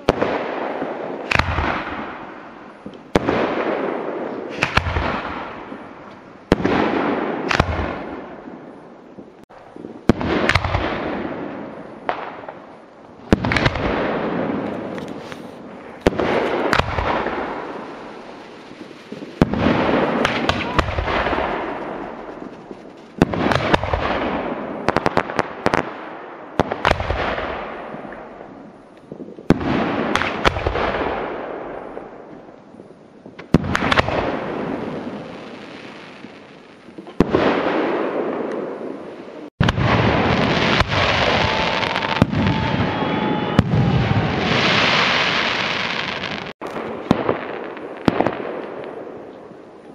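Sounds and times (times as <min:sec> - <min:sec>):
firework bangs: 0:00.0 - 0:32.4, 0:33.2 - 0:49.6
firework crackles: 0:00.0 - 0:49.9.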